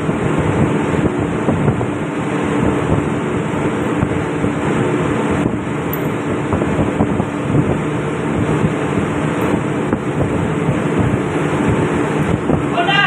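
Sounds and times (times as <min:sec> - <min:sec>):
engine room machinery drone: 0:00.0 - 0:13.0.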